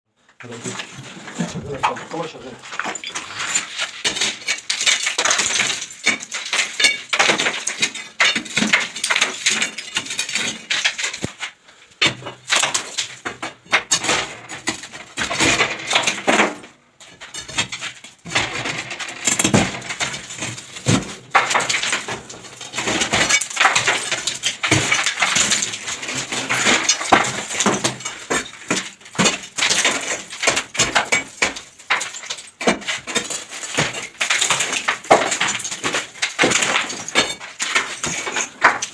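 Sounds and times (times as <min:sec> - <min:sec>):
debris clinking down: 0:00.4 - 0:38.9.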